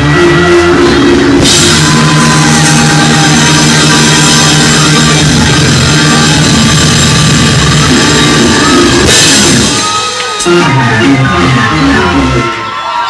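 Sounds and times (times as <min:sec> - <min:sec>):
gospel praise music with drums: 0:00.0 - 0:11.4.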